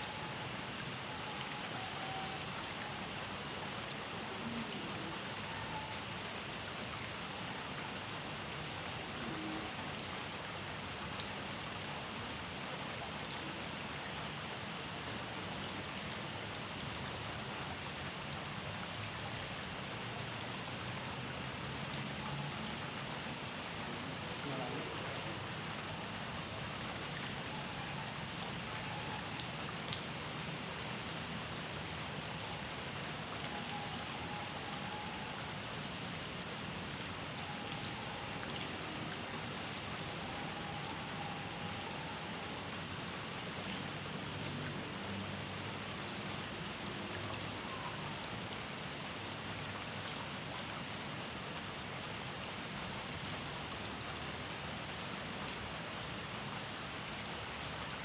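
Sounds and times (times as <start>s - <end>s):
rain falling on a pond: 0.0s - 58.0s.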